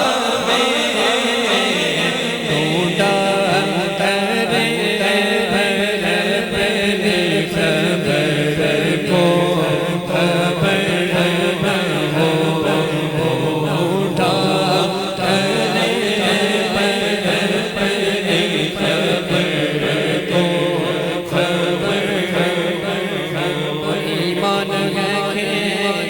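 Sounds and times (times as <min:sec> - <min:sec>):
layered voices chanting a melody: 0:00.0 - 0:26.0.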